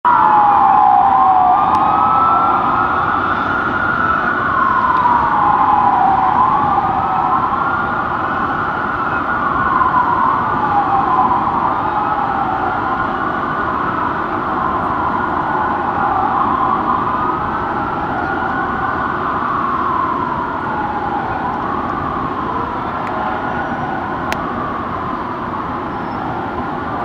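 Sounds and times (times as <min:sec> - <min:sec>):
fire engine sirens wailing: 0:00.0 - 0:27.0
low rumble of traffic: 0:00.1 - 0:27.0.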